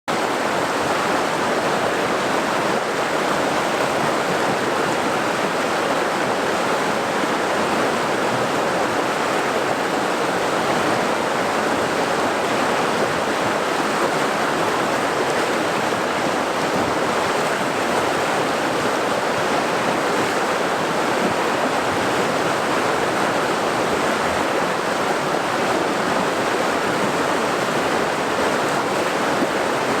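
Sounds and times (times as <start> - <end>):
flowing water rushing: 0.1 - 30.0.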